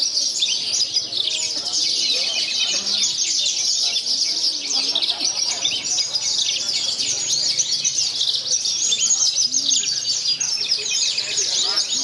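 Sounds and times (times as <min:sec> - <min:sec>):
larks chirping and trilling: 0:00.0 - 0:12.0.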